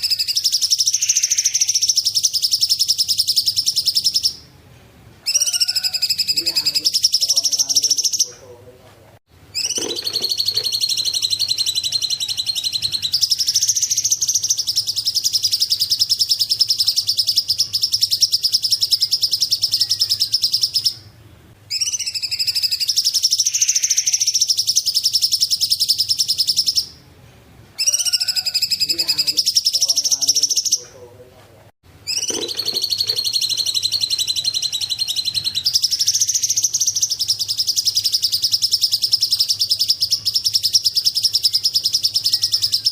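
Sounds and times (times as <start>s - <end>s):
bird singing fast trills: 0.0s - 4.5s, 5.2s - 8.3s, 9.5s - 27.0s, 27.8s - 30.9s, 32.0s - 42.9s.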